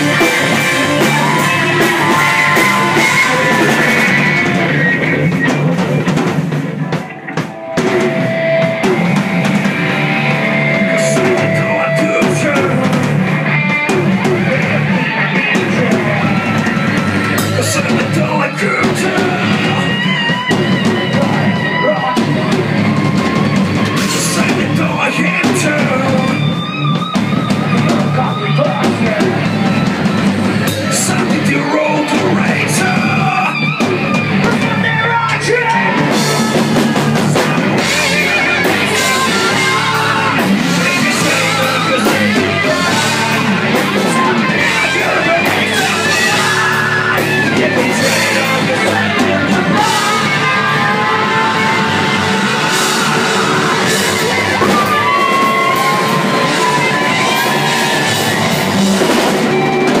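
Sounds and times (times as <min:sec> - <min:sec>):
shouted vocals: 0:00.0 - 0:05.8, 0:07.8 - 1:00.0
drum kit: 0:00.0 - 1:00.0
electric guitar: 0:00.0 - 1:00.0.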